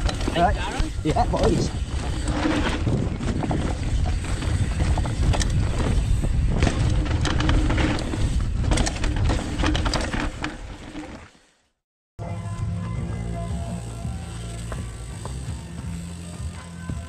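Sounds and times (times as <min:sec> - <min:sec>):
bike rattling and knocking: 0:00.0 - 0:11.3, 0:13.8 - 0:17.0
bike tyres rumbling on dirt: 0:00.0 - 0:11.6, 0:13.4 - 0:17.0
wind: 0:00.0 - 0:17.0.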